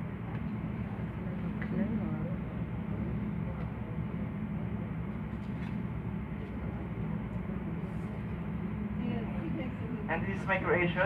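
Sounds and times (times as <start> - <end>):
low machinery rumble: 0.0 - 11.0.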